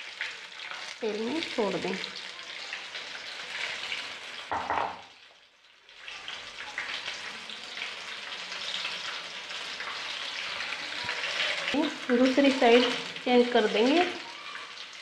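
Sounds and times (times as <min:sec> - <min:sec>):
food deep-frying in hot oil: 0:00.0 - 0:15.0.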